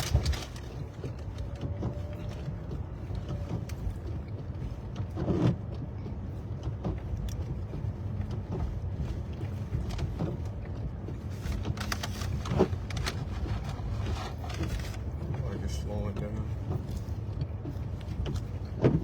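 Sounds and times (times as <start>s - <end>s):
car interior rumble: 0.0s - 19.0s.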